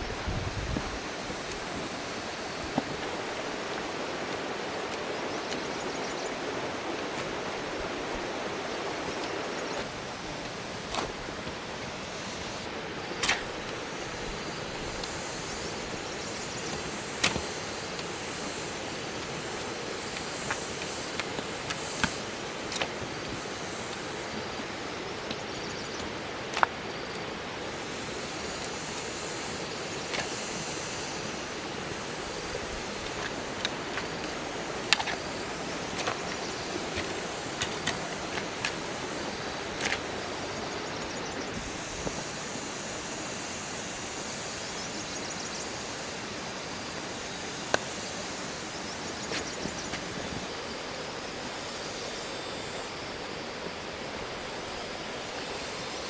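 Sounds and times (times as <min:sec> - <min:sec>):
rushing outdoor noise: 0:00.0 - 0:56.0.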